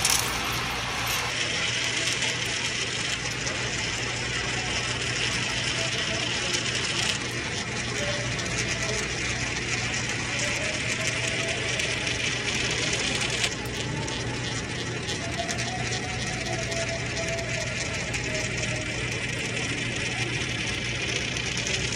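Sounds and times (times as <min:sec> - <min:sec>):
coins rolling in a funnel: 0:00.0 - 0:21.9.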